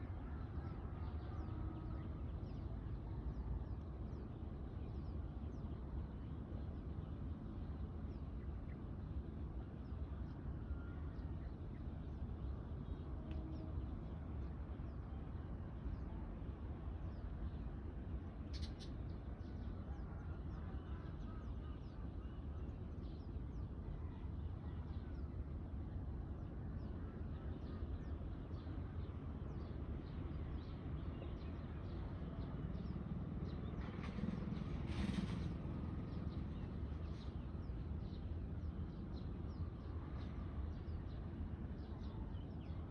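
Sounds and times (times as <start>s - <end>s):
low background hum: 0.0s - 42.9s.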